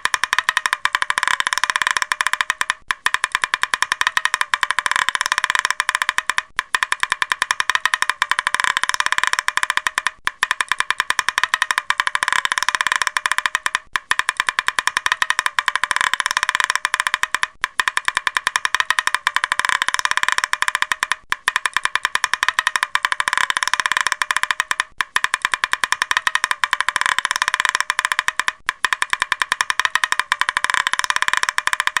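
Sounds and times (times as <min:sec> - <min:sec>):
woodpecker tapping: 0:00.0 - 0:32.0.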